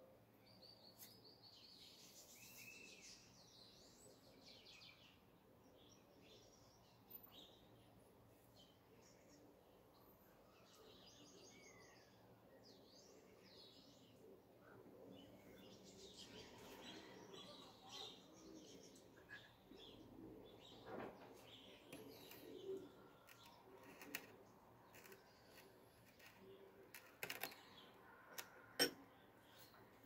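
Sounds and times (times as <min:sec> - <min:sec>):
small birds chirping: 0:00.4 - 0:30.0.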